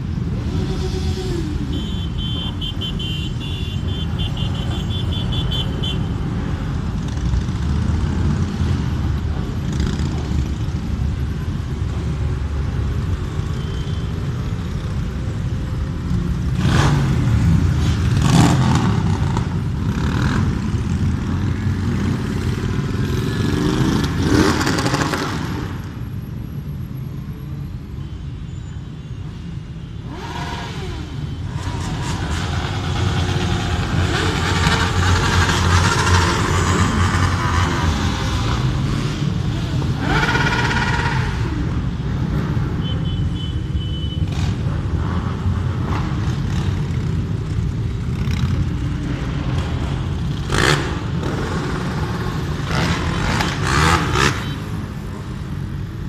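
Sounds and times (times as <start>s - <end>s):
motorcycles riding past: 0.0s - 26.1s, 30.0s - 43.6s, 44.2s - 56.0s
motorcycle engines revving: 0.0s - 27.9s, 28.7s - 56.0s.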